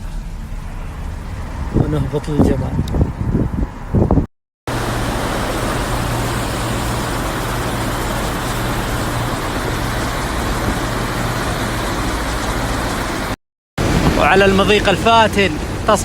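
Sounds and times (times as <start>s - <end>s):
engine drone: 0.0s - 2.5s, 4.7s - 16.0s.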